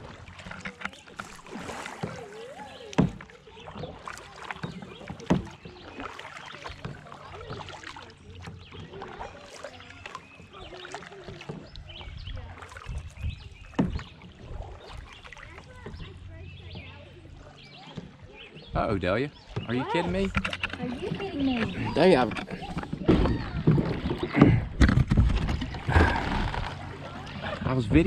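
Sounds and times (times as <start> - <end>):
paddle splashing in water: 0.0 - 28.0
paddle knocks: 0.3 - 11.8, 12.7 - 16.1, 19.4 - 27.0.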